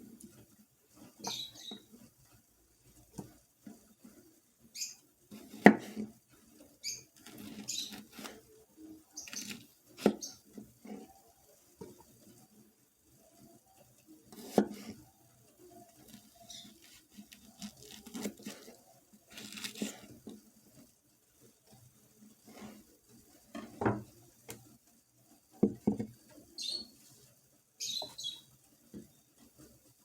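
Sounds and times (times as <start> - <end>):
hands and utensils working food: 0.0 - 30.0.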